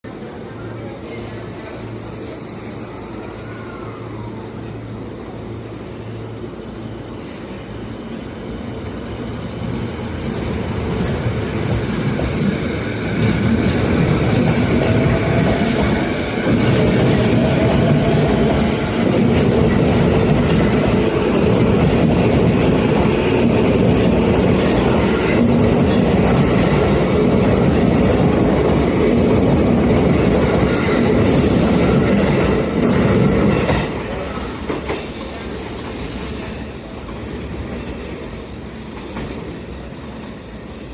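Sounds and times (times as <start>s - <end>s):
electric train passing: 0.1s - 40.9s.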